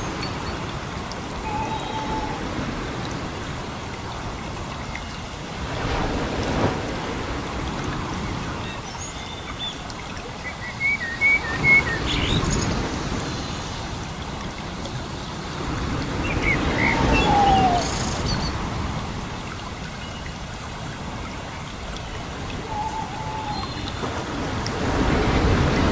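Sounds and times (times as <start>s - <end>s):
running water hiss: 0.0s - 25.9s.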